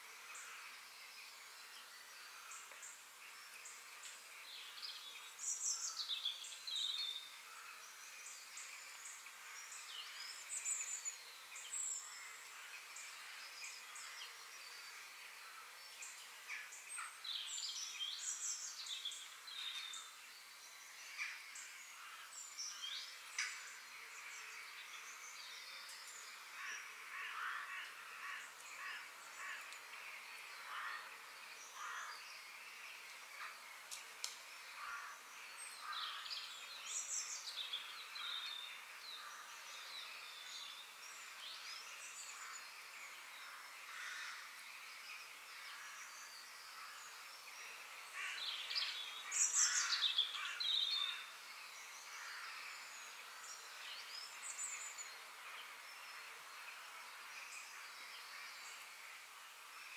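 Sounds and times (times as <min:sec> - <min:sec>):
faint outdoor hiss: 0:00.0 - 0:59.9
songbirds chirping and whistling: 0:00.2 - 0:59.0.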